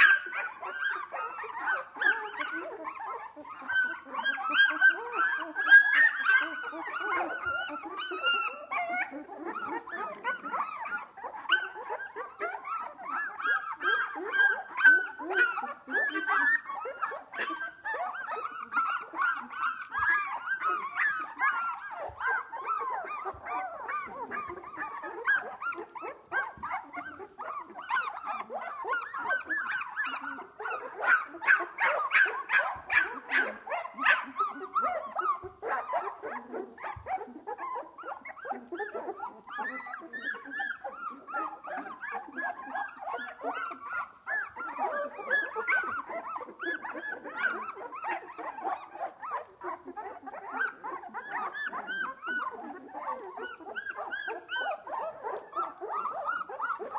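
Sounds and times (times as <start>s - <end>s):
puppies whining and squealing: 0.0s - 56.9s.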